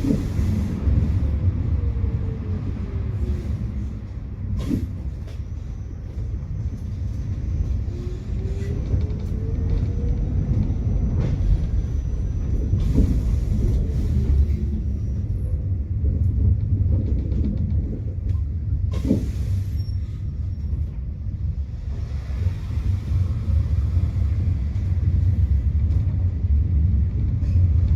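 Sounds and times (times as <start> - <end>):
tram rumbling on rails: 0.0 - 27.9.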